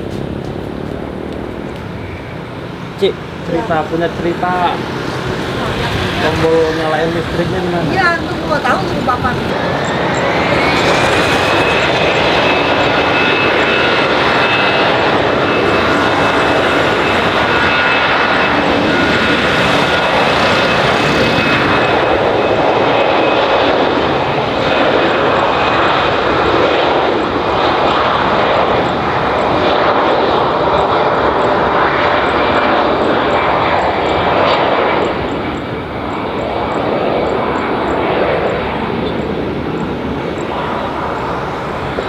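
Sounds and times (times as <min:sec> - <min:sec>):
jet engines at high power: 0:00.0 - 0:42.0.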